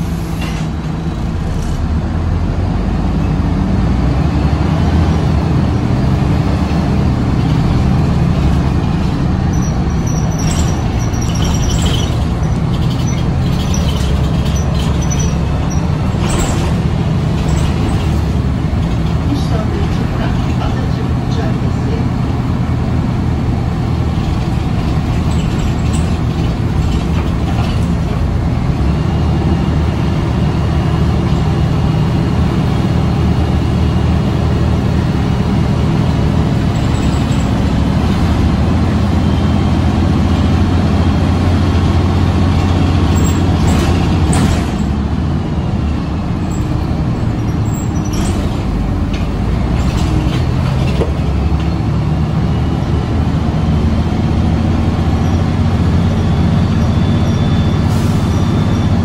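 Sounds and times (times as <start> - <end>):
bus engine and road drone: 0.0 - 59.0.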